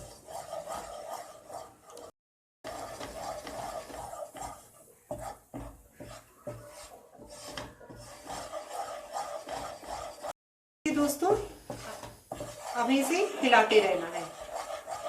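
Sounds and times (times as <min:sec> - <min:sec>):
spatula scraping a pan: 0:00.0 - 0:15.0.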